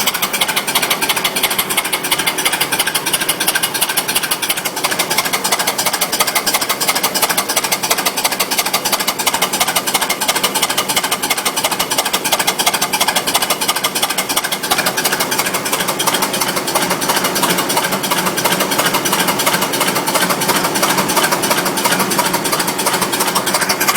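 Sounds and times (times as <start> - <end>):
steam engine exhaust clatter: 0.0 - 23.9.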